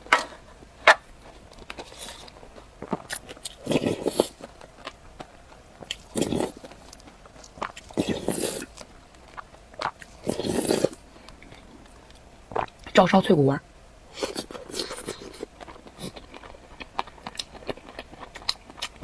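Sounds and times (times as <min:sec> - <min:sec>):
biting and chewing crunches: 0:00.0 - 0:12.9, 0:14.1 - 0:19.0.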